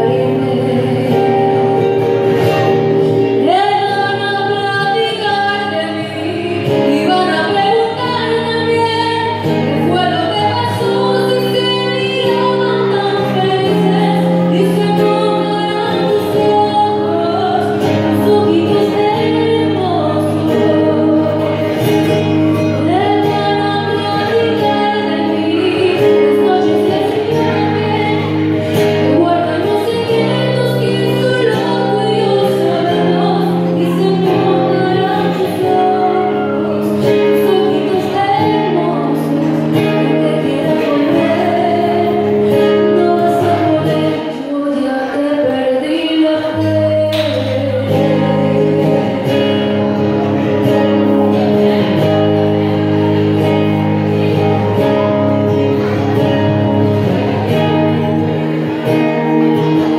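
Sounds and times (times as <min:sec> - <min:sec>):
woman singing into a microphone: 0:00.0 - 0:59.9.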